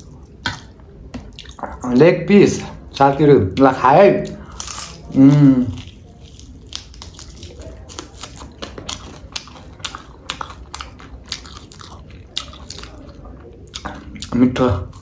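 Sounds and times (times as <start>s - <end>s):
chewing with wet mouth clicks: 0.0s - 1.8s, 4.2s - 15.0s.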